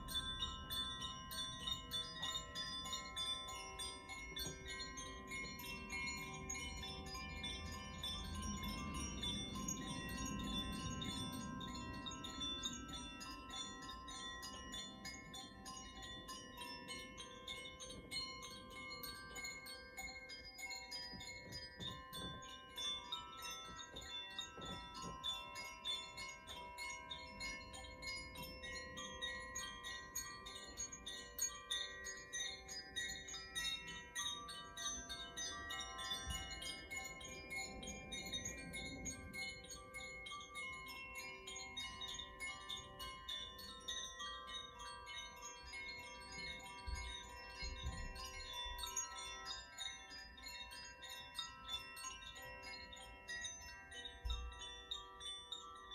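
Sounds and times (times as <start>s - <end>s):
chimes ringing softly: 0.0s - 55.9s.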